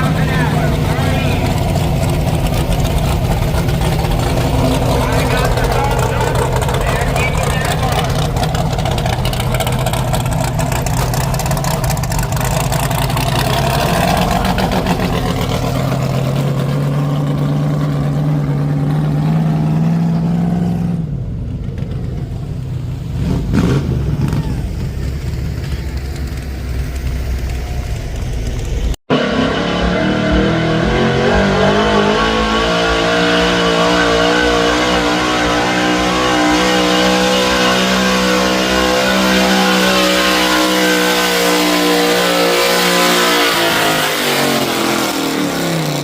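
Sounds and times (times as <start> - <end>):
truck engine revving hard: 0.0 - 21.2, 21.8 - 46.0.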